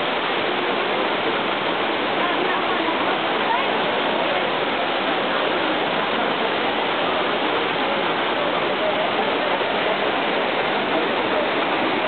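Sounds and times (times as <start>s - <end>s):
fountain water cascading over stone: 0.0s - 12.0s.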